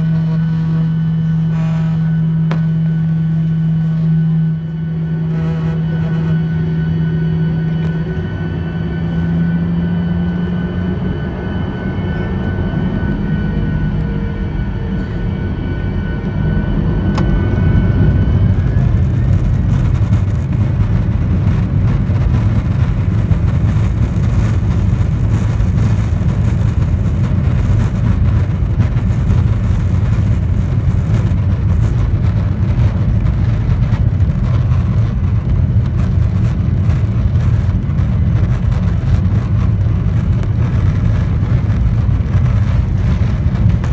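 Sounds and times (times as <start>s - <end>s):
high engine whine: 0.0s - 43.9s
jet engines low rumble: 0.0s - 43.9s.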